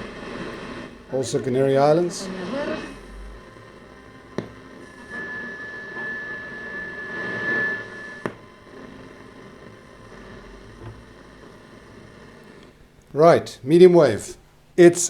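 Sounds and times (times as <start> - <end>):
high radio whistle: 0.0 - 12.1
radio static hiss: 0.0 - 15.0.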